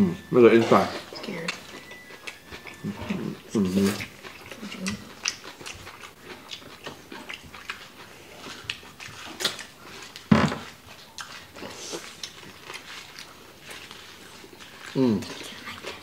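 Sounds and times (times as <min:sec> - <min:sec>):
chewing with wet mouth sounds: 0:00.1 - 0:16.0.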